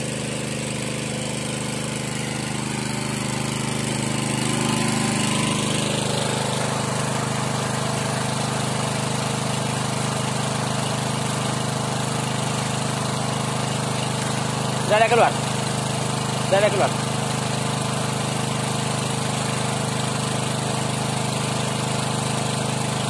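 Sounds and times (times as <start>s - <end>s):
engine-driven water pump running: 0.0s - 23.0s.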